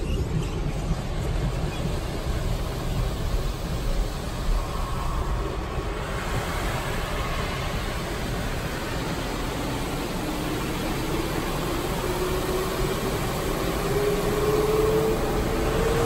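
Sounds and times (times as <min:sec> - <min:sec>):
water spraying onto a car: 0:00.8 - 0:16.0.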